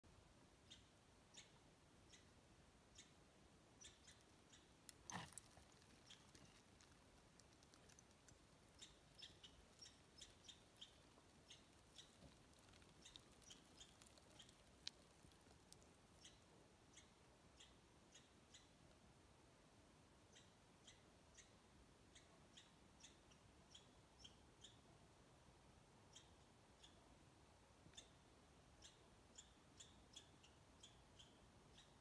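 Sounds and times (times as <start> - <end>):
small birds chirping faintly: 0.0 - 32.0.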